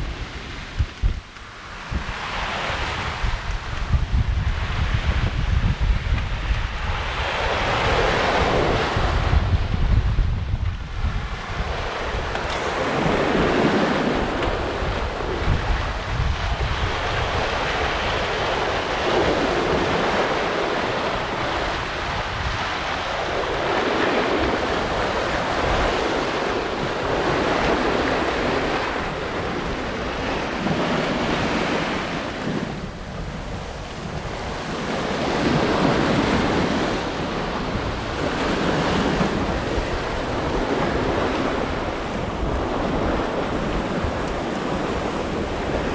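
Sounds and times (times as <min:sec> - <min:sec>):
sea rushing along a hull: 0:00.0 - 0:45.9
wind buffeting microphone: 0:00.0 - 0:45.9.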